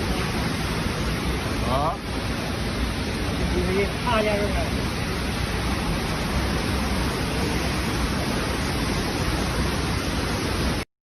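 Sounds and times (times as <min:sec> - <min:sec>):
floodwater rushing: 0:00.0 - 0:10.9.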